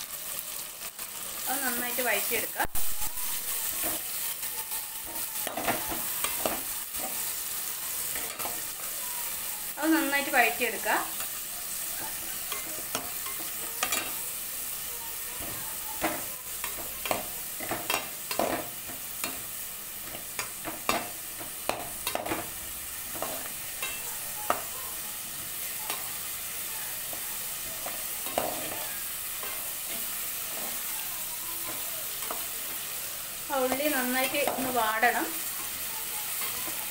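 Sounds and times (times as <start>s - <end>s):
vegetables sizzling in hot oil: 0.0s - 36.9s.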